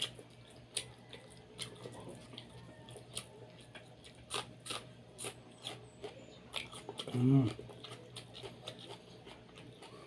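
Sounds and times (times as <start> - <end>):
mouth clicks and smacks eating: 0.0 - 10.0.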